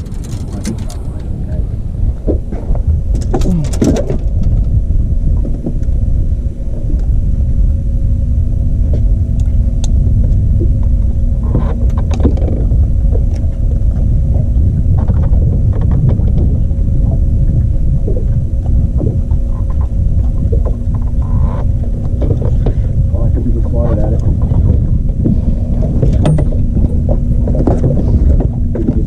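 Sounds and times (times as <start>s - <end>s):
boat motor hum: 0.0s - 29.0s.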